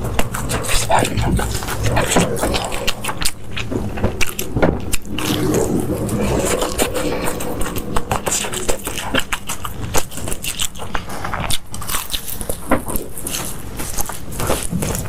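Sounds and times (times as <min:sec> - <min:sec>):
chewing and mouth smacks: 0:00.0 - 0:15.0.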